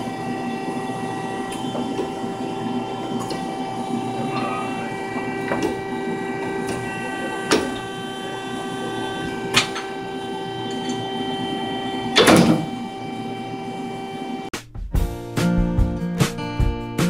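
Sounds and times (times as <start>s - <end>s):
drill press humming: 0.0s - 14.5s.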